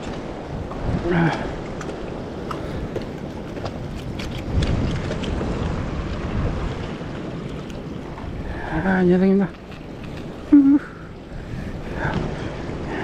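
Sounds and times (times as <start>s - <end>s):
small waves washing on rocks: 0.0s - 13.0s
wind buffeting microphone: 0.0s - 13.0s.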